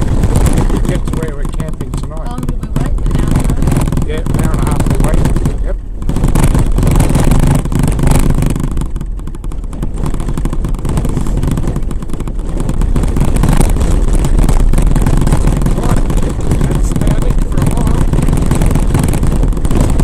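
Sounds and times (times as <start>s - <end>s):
rapid rattling over corrugations: 0.0s - 20.0s
vehicle engine and road noise: 0.0s - 20.0s.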